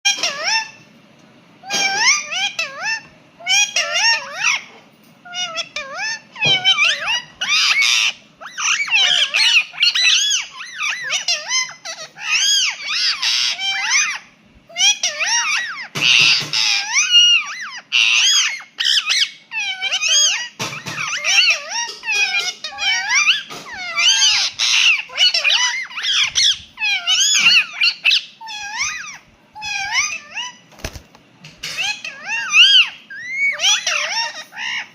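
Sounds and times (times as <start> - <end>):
parakeet squawks: 0.1 - 0.8, 1.6 - 31.0, 31.6 - 34.9
parakeet whistled calls: 1.6 - 30.7, 31.6 - 34.9.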